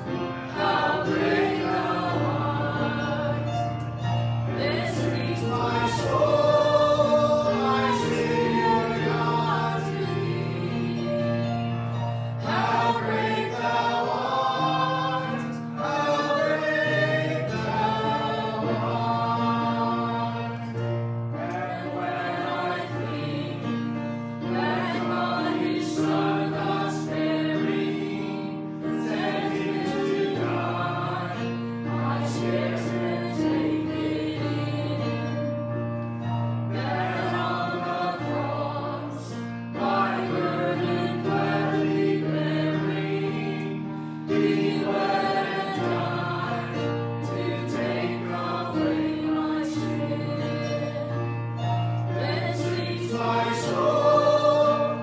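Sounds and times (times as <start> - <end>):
choir singing gospel music: 0.0 - 55.0.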